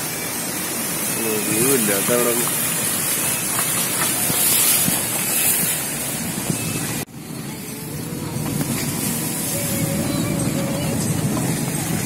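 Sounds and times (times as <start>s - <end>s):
vehicle road rushing noise: 0.0s - 12.0s.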